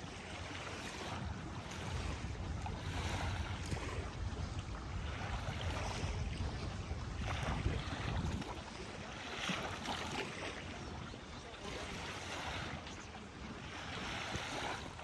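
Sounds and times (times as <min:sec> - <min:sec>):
river water washing at shore: 0:00.0 - 0:15.0
wind rumbling on microphone: 0:00.0 - 0:15.0.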